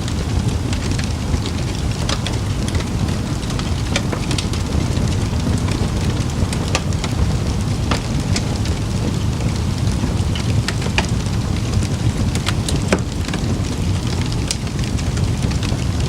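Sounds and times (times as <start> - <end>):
burning wood crackling: 0.0 - 16.0
campfire flames rumbling: 0.0 - 16.0.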